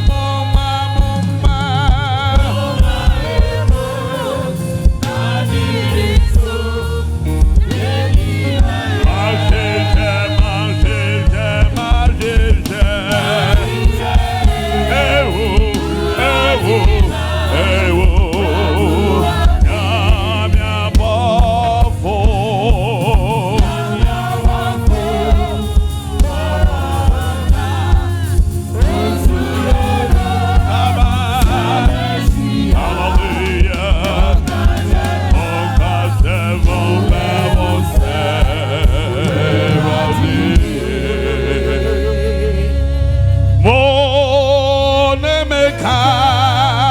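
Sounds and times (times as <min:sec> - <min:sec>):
band with drum beat and bass: 0:00.0 - 0:41.2
choir singing: 0:00.0 - 0:46.9.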